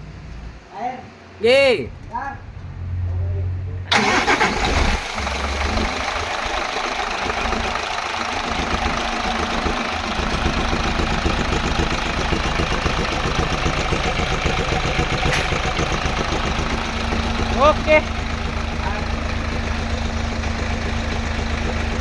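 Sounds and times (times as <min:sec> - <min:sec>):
diesel engine idling: 0:01.9 - 0:22.0.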